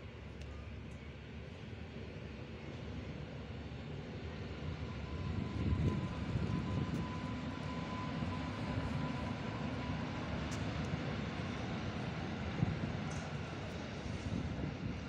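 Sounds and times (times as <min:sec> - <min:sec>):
thin steady whine: 0:00.0 - 0:15.0
train wheels rumbling on rails: 0:00.1 - 0:15.0.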